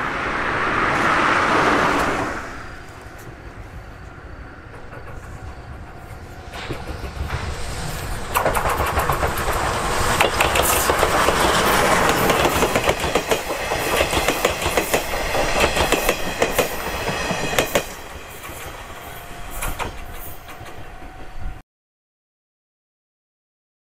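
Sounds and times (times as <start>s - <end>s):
steam train passing: 0.0s - 21.6s.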